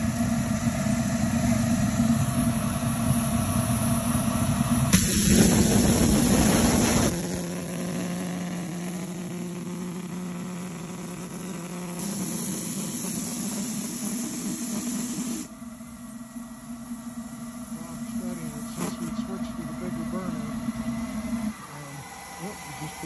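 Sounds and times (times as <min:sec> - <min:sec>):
oil burner hissing: 0:00.0 - 0:23.0.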